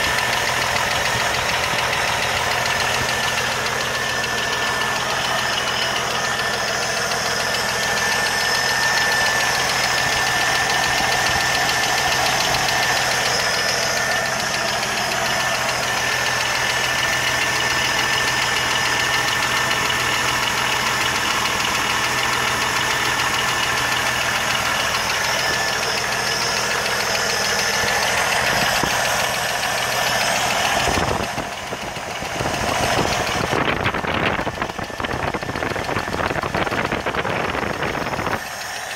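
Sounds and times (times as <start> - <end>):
car engine idling with ticking: 0.0 - 38.9.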